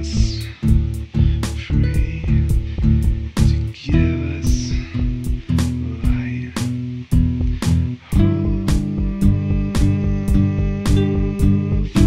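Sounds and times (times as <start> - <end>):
drums beat: 0.0 - 12.0
guitar and bass music: 0.0 - 12.0.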